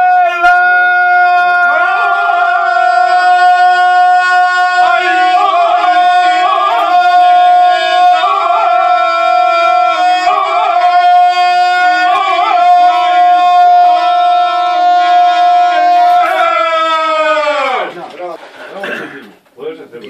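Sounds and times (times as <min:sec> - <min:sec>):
men singing unaccompanied: 0:00.0 - 0:17.7.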